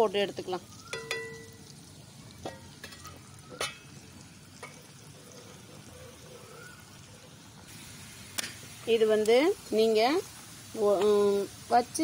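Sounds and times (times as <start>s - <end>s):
fries sizzling in oil: 0.0s - 12.0s.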